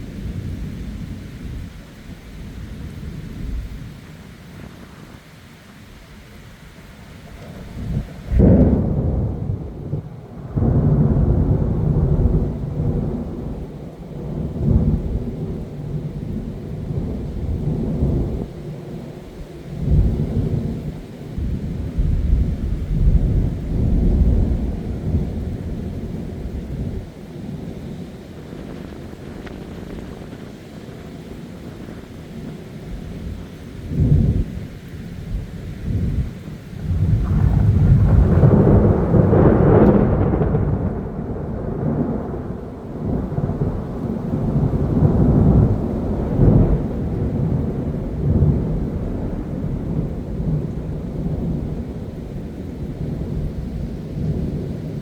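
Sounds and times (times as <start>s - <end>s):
heavy rain falling: 0.0s - 55.0s
thunder clap and rumble: 6.6s - 55.0s.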